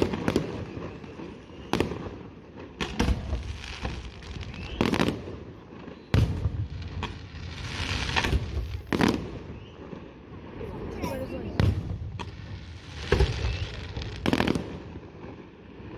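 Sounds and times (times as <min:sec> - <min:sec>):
fireworks crackling: 0:00.0 - 0:15.9.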